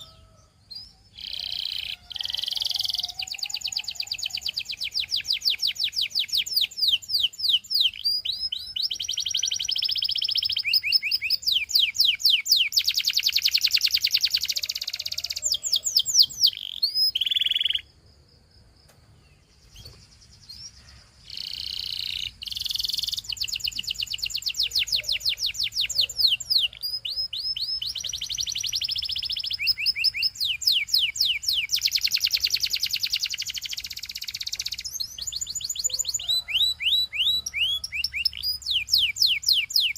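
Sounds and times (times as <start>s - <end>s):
canary trilling song: 0.0s - 18.0s, 19.4s - 39.9s.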